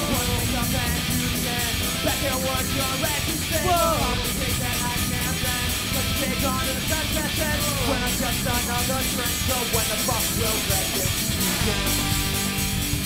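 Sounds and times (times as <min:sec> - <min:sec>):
live rock band with horns: 0:00.0 - 0:13.0.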